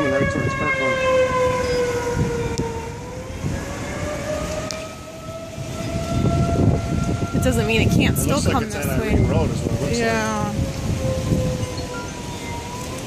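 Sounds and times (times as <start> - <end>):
tornado warning siren wailing: 0.0 - 13.0.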